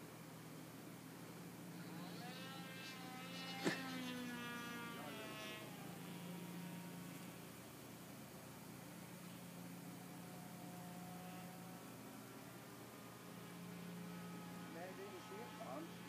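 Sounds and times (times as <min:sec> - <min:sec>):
model airplane engine buzzing: 0:00.0 - 0:16.0.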